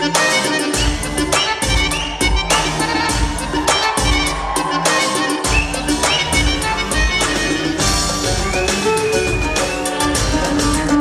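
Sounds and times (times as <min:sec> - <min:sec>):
band playing instrumental music: 0:00.0 - 0:11.0
drum beat: 0:00.0 - 0:11.0.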